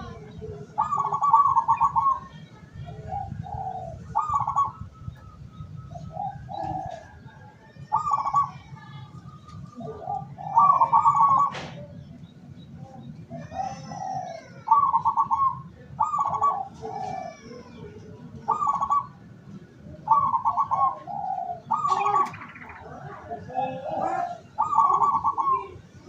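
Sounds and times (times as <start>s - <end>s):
soft low dove coos: 0.0s - 8.7s, 9.3s - 12.2s, 12.8s - 26.0s
doves cooing in trilled phrases: 0.0s - 26.0s.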